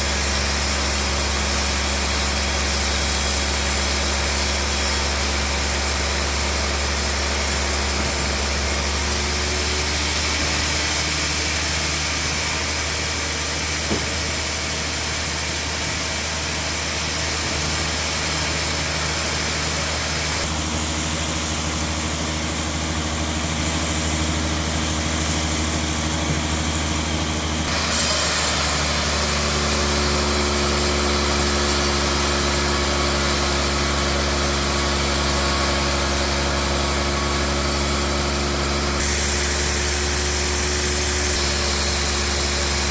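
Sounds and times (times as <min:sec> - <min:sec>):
bandsaw machinery humming: 0:00.0 - 0:42.9.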